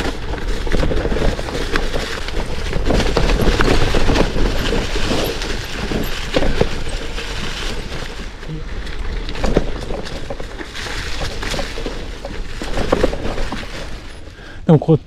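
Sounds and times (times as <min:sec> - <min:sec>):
bike rattling and clicking: 0:00.0 - 0:14.7
tyres crunching over stones: 0:00.0 - 0:14.9.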